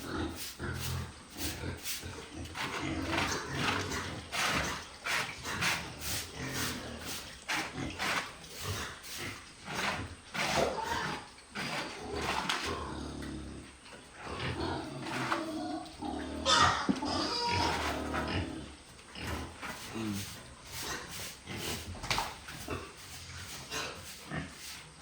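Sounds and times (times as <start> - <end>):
pigs grunting and squealing: 0.0 - 25.0.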